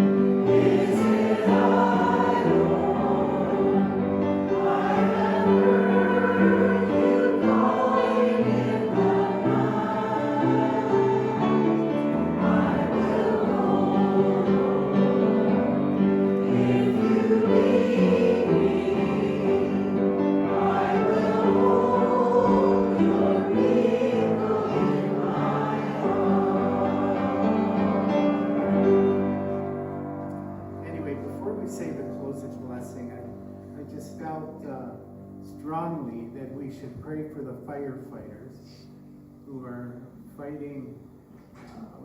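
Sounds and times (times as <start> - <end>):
choir singing a hymn: 0.0 - 35.2.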